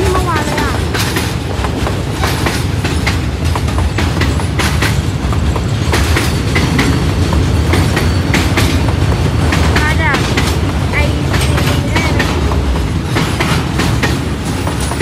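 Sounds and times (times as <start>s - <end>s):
train rumbling on rails: 0.0s - 15.0s
wheels clicking and knocking: 0.0s - 15.0s.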